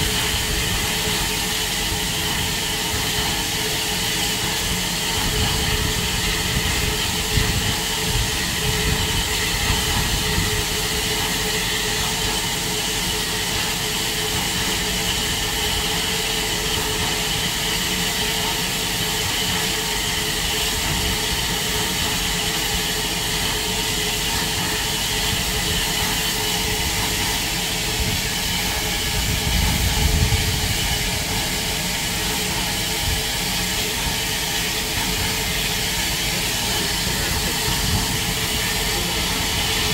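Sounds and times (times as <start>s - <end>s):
steam locomotive hiss: 0.0s - 39.9s
train low rumble: 0.0s - 39.9s.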